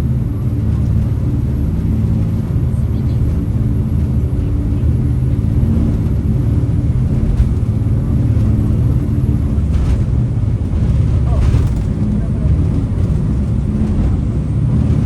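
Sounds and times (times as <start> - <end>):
boat diesel engines rumbling: 0.0 - 15.0.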